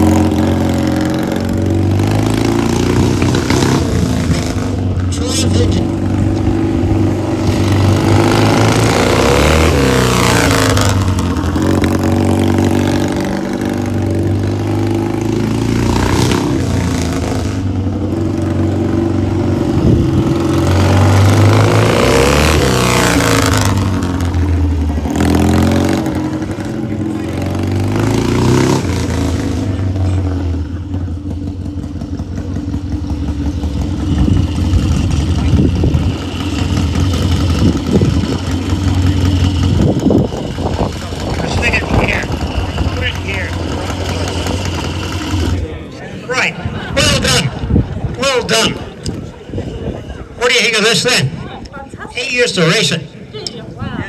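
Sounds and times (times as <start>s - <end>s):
motorcycle engine revving: 0.0s - 50.6s.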